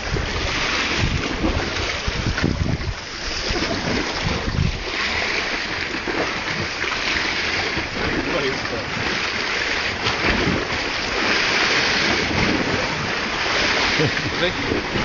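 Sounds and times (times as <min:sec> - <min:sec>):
sea washing: 0:00.0 - 0:15.0
wind buffeting the microphone: 0:00.0 - 0:15.0.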